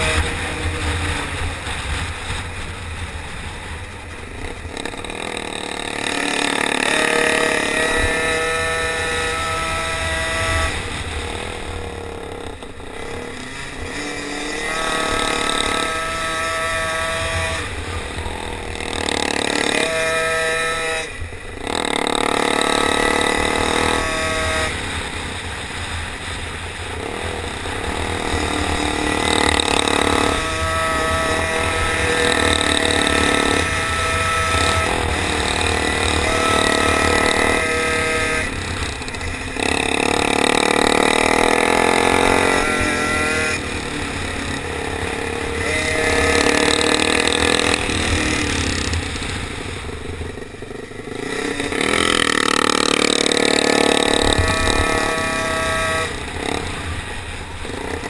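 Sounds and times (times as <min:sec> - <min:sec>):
racing bike engine: 0:00.0 - 0:58.0
wind rumble on microphone: 0:00.0 - 0:58.0.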